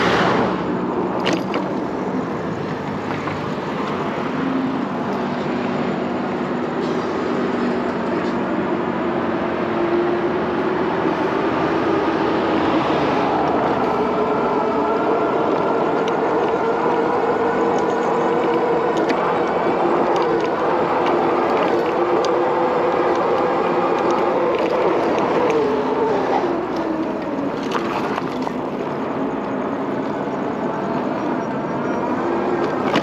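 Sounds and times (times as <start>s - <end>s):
passing traffic: 0.0s - 33.0s
rushing road noise: 0.0s - 33.0s.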